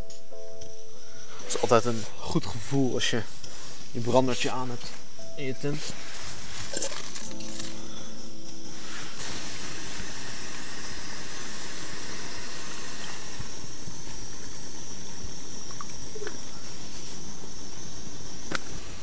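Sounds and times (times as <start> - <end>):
gas stove hissing: 0.0 - 19.0.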